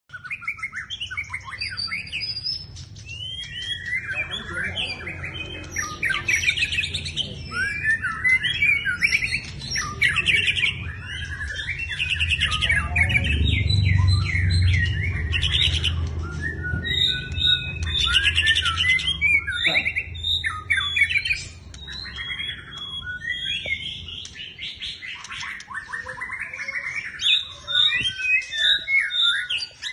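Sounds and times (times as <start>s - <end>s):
bird singing: 0.0s - 29.9s.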